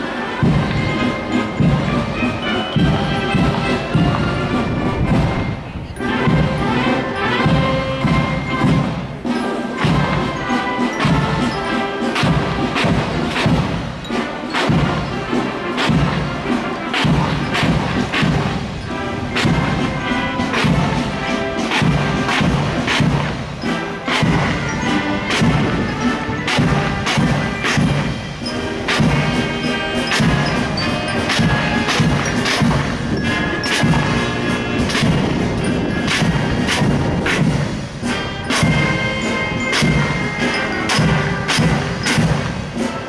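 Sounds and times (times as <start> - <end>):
military band playing a march: 0.0 - 43.0
bass drum and cymbal strikes: 6.2 - 43.0.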